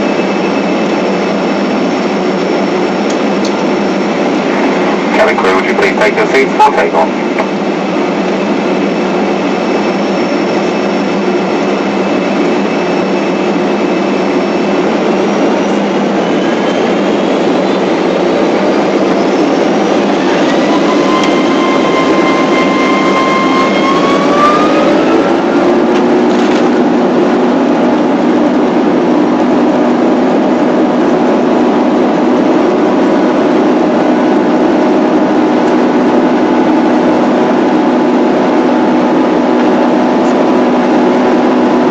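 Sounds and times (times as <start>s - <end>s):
jet engines spooling up: 0.0s - 41.9s.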